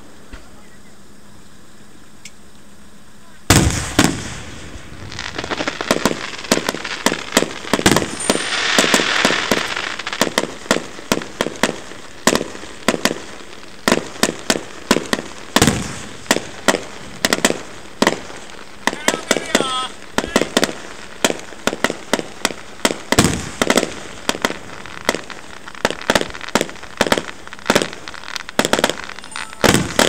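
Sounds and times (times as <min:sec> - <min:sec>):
crackling firework shells: 0:00.0 - 0:30.0
hissing sputtering firework shower: 0:00.0 - 0:30.0
firework bangs: 0:03.4 - 0:30.0.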